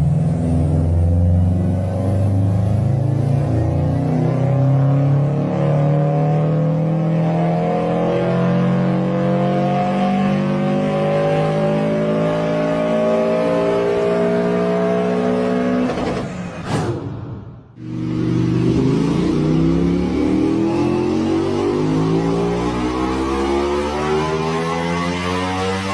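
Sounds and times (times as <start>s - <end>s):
car engine accelerating: 0.0s - 16.5s, 17.8s - 25.9s.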